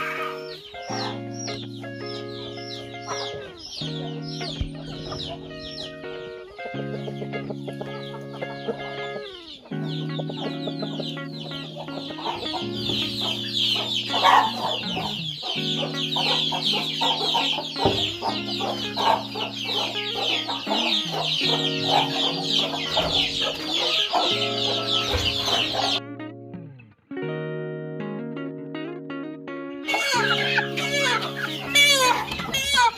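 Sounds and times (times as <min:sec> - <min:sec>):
chickens peeping and clucking: 0:00.0 - 0:26.0, 0:29.9 - 0:32.9
slow held chords music: 0:00.0 - 0:32.9.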